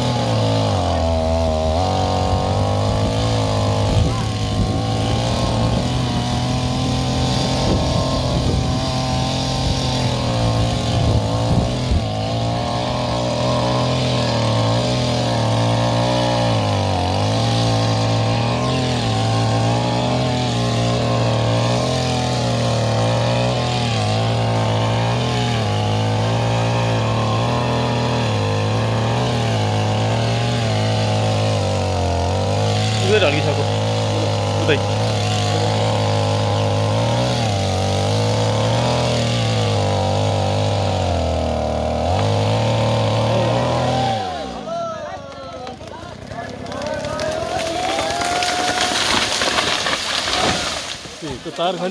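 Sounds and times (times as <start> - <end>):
chainsaw cutting wood: 0.0 - 44.7, 45.6 - 51.9.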